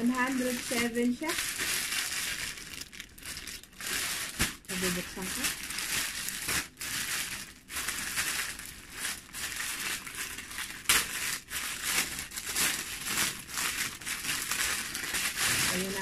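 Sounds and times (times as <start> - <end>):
packaging crinkling and crackling: 0.0 - 16.0.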